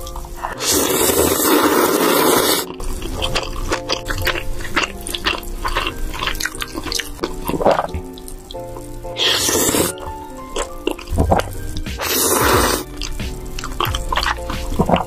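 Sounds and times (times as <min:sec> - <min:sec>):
noodle slurping: 0:00.0 - 0:15.0
wet chewing sounds: 0:00.0 - 0:15.0.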